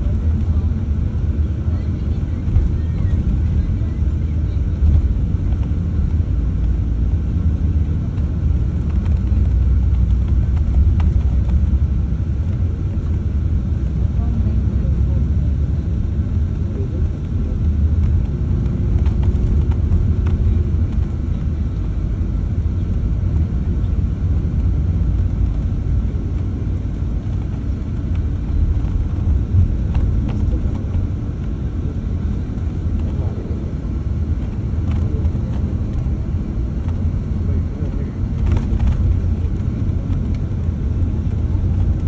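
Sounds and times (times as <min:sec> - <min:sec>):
vehicle rumble: 0:00.0 - 0:42.0.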